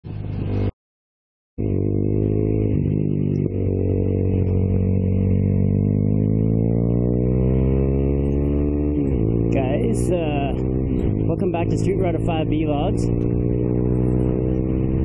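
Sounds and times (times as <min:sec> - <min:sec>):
motorcycle engine accelerating: 0:00.0 - 0:00.7, 0:01.6 - 0:15.0.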